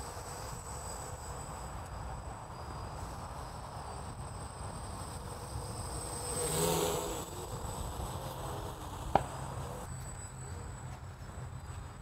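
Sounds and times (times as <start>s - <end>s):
quadcopter propellers buzzing: 0.0s - 12.0s.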